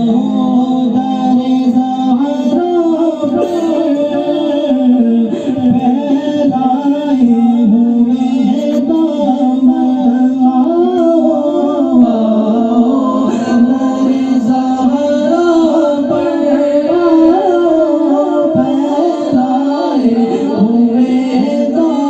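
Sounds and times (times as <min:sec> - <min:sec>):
person singing melodic vocal line: 0:00.0 - 0:22.0.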